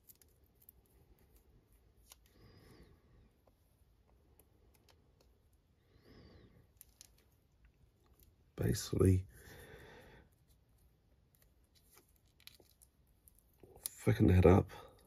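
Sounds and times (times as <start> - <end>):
soft rustles of handling tape: 0.0 - 5.8, 6.4 - 15.0.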